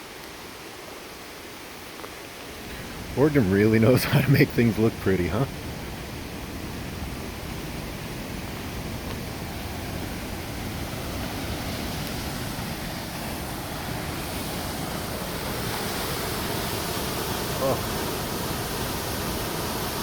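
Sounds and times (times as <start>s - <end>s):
waterfall rushing: 2.5s - 20.0s.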